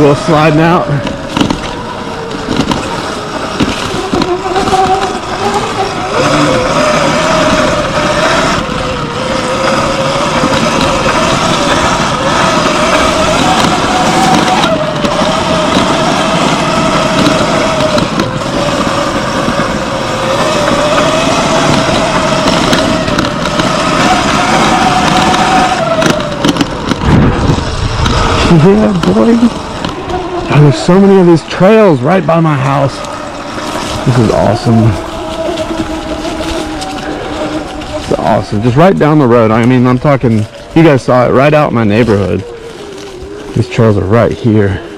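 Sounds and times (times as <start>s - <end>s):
electric motor whine: 0.0s - 44.9s
rushing noise: 0.0s - 44.9s.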